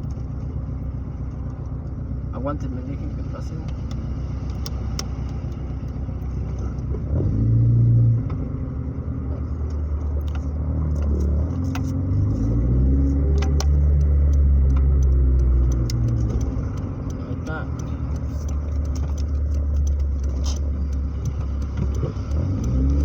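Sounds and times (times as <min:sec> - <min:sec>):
car engine revving: 0:00.8 - 0:23.0.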